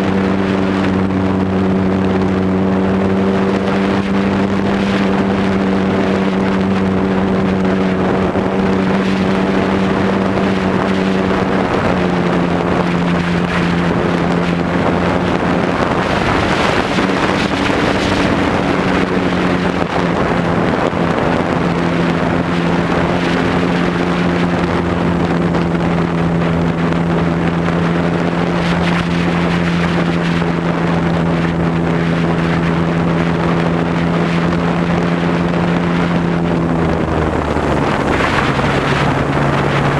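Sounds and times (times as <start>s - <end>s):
model airplane motor and propeller: 0.0s - 39.9s
wind on microphone: 0.0s - 39.9s.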